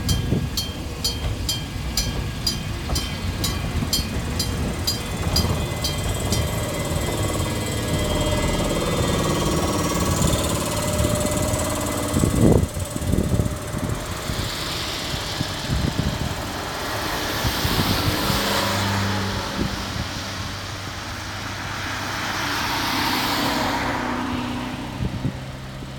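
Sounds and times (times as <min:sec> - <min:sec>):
train pulling into station: 0:00.0 - 0:25.9.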